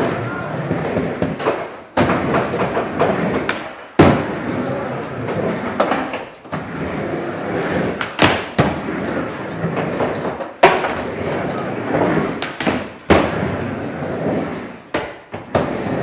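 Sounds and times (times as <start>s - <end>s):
skateboard wheels rolling: 0.0s - 16.0s.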